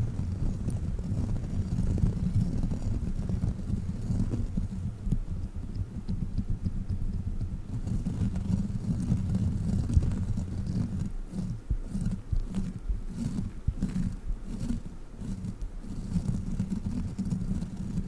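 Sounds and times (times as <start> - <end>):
gel toy rubbing on microphone: 0.0 - 18.0.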